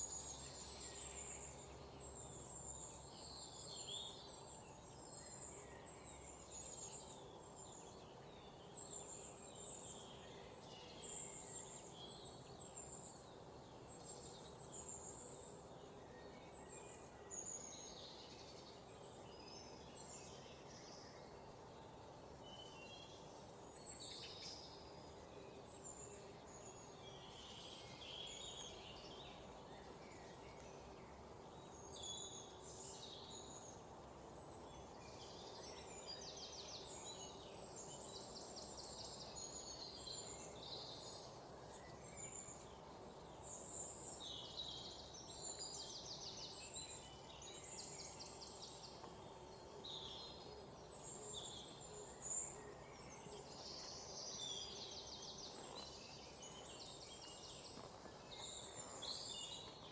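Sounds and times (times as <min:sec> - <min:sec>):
low background noise: 0:00.0 - 0:59.9
small birds chirping: 0:00.0 - 0:59.9.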